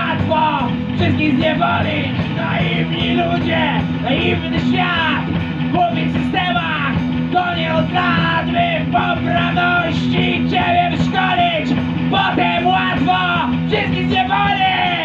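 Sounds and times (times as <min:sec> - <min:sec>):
bass guitar: 0:00.0 - 0:15.0
drum kit: 0:00.0 - 0:15.0
electric guitars: 0:00.0 - 0:15.0.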